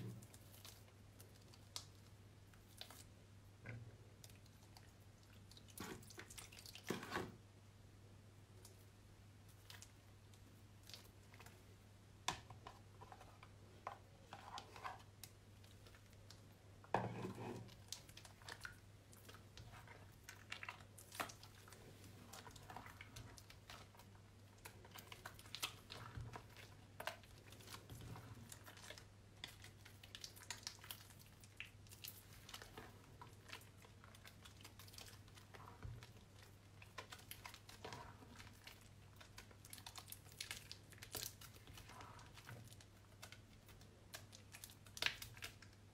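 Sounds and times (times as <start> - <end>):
wet soap squelches: 0.0 - 7.5, 8.4 - 45.9.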